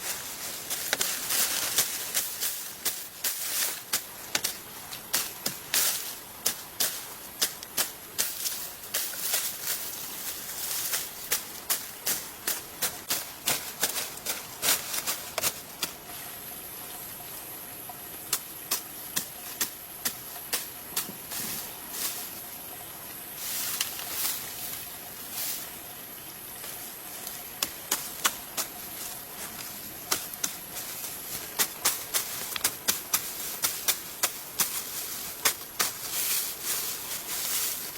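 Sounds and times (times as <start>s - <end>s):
steady high hiss: 0.0s - 37.9s.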